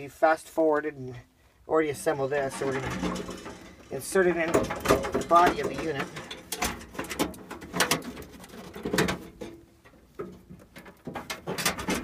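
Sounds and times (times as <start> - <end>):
metal clanks and scrapes: 1.9 - 12.0.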